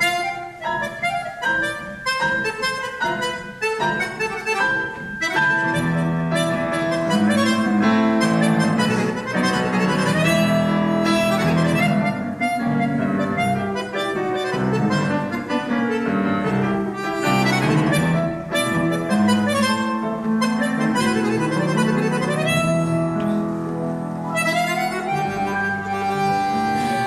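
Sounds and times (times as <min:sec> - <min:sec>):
grand piano: 0:00.0 - 0:27.0
piano accordion: 0:00.0 - 0:27.0.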